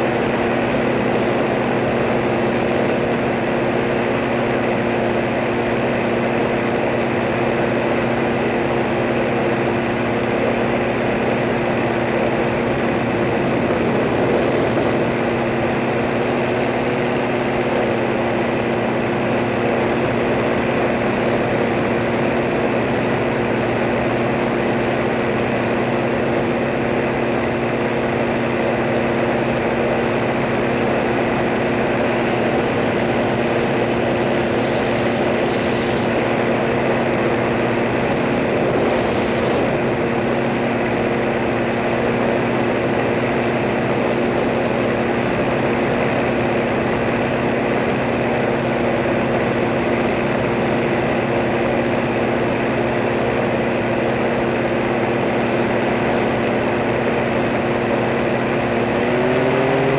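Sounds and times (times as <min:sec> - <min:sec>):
propeller aircraft humming: 0:00.0 - 0:59.9.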